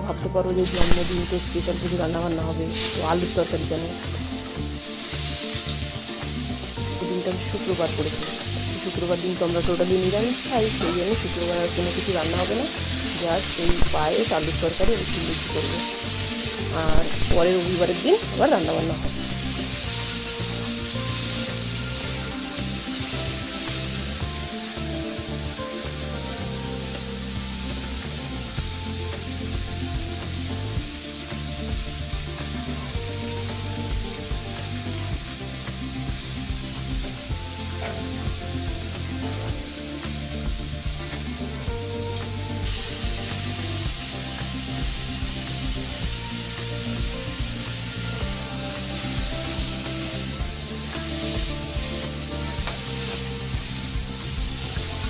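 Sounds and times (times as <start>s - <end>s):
soft background music: 0.0s - 55.0s
potatoes sizzling in hot oil: 0.6s - 55.0s.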